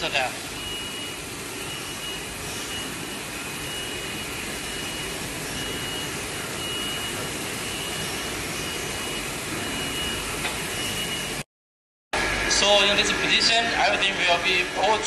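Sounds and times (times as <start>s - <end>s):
machinery hum and hiss: 0.0s - 11.4s, 12.2s - 15.0s.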